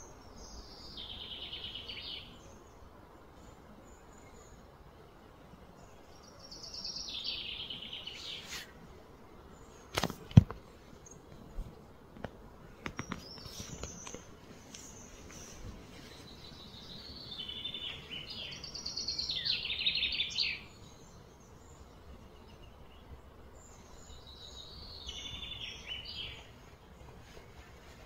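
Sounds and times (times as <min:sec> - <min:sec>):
outdoor background: 0:00.0 - 0:28.0.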